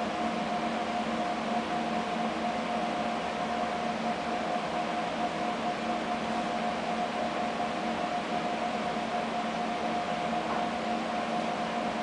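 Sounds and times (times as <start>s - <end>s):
mechanical hum with whine: 0.0s - 12.0s.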